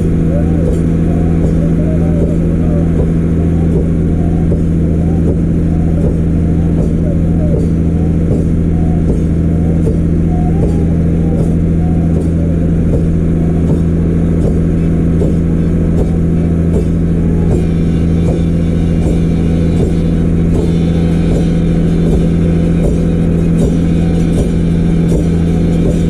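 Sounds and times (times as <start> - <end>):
motorboat engine humming: 0.0 - 26.0.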